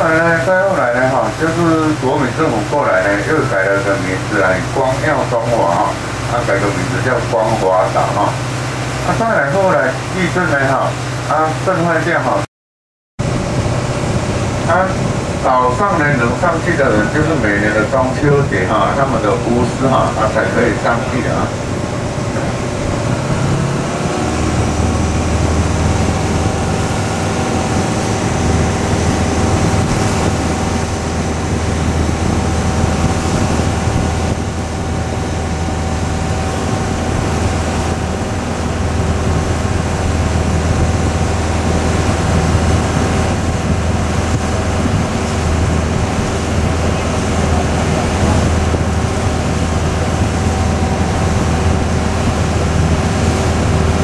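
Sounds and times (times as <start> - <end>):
ferry engine humming: 0.0 - 12.1, 13.2 - 54.0
rush of wind and water: 0.0 - 12.5, 13.2 - 54.0.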